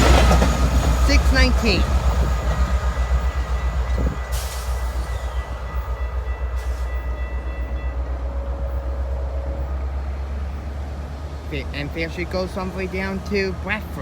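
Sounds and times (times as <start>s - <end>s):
diesel train rumbling past: 0.0s - 14.0s.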